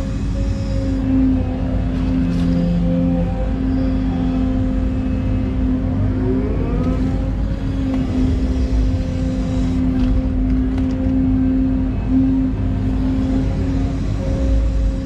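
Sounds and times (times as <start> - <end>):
diesel engine running under load: 0.0 - 15.0
rising hydraulic whines: 0.0 - 15.0.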